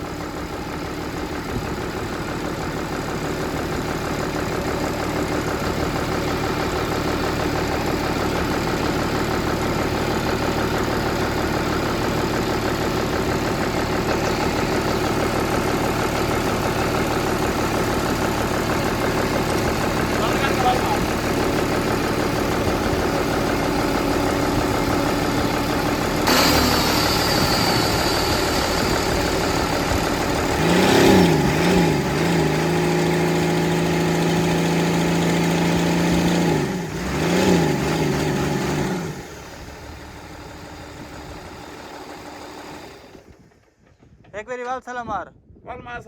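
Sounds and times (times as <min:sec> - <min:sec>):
excavator diesel engine revving: 0:00.0 - 0:43.4.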